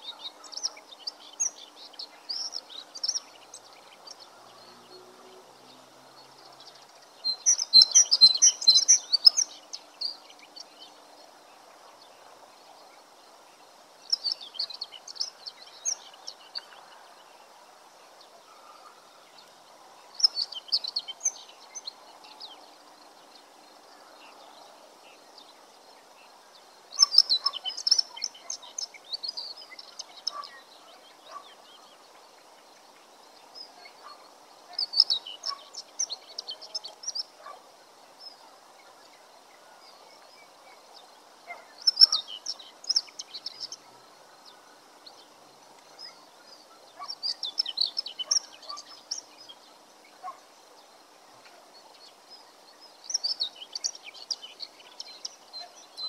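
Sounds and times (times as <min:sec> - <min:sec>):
faint background hiss: 0:00.0 - 0:56.0
songbird chirping: 0:00.0 - 0:56.0.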